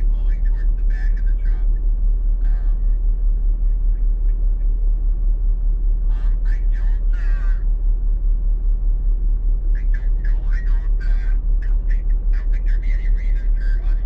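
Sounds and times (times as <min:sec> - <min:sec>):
muffled talk: 0:00.0 - 0:05.0, 0:05.9 - 0:08.0, 0:09.6 - 0:14.0
diesel engine idling: 0:00.0 - 0:14.0.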